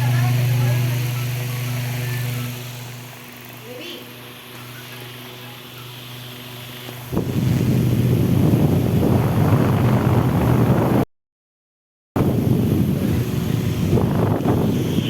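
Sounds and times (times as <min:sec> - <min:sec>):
electric fan running: 0:00.0 - 0:11.0, 0:12.2 - 0:15.0.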